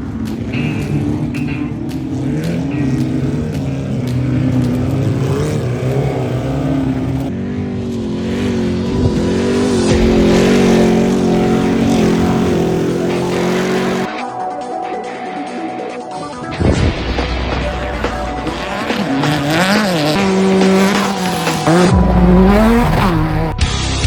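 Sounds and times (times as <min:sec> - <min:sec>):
race vehicle engines revving: 0:00.0 - 0:14.1, 0:16.6 - 0:24.0.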